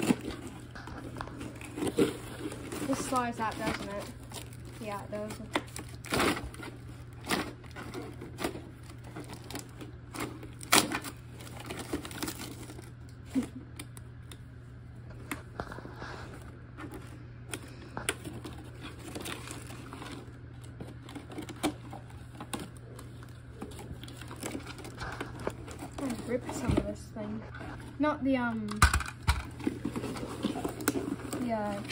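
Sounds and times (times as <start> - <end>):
packaging being handled: 0.0 - 14.4, 15.1 - 27.9, 28.7 - 31.9
steady low hum: 0.0 - 31.9.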